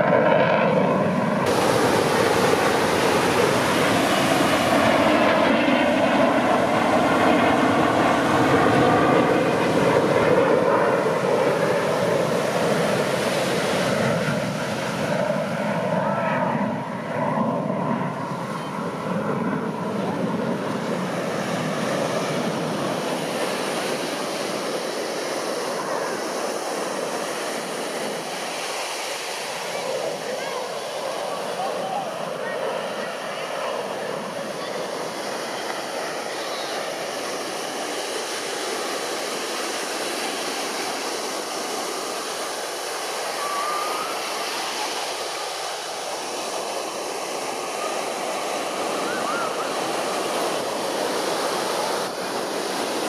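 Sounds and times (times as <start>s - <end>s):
airplane engine drone: 0.0s - 53.0s
surf rushing: 0.0s - 53.0s.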